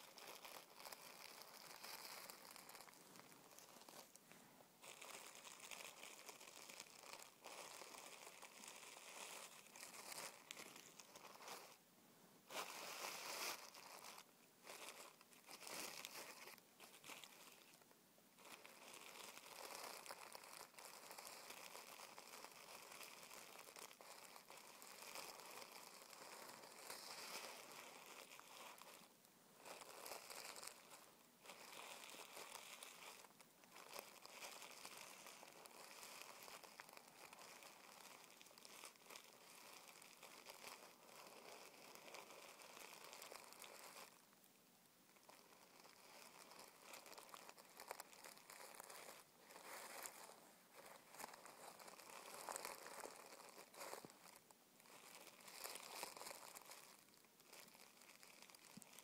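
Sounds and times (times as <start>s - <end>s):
tissue paper crinkling: 0.0s - 11.8s, 12.4s - 44.4s, 45.1s - 59.0s.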